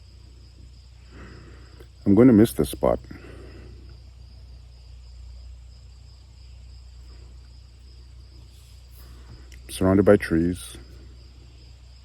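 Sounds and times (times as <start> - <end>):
crickets chirring: 0.0 - 12.0
low steady rumble: 0.0 - 12.0.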